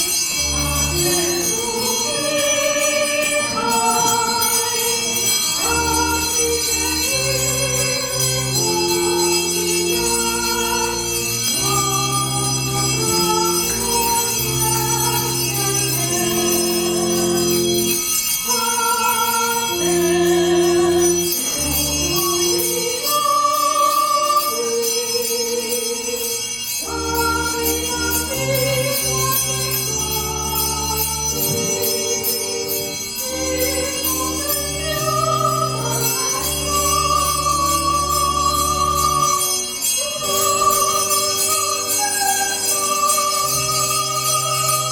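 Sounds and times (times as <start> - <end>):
sustained accompaniment chords: 0.0 - 24.7, 26.8 - 44.9
choir singing a hymn: 0.0 - 26.2, 26.8 - 44.9.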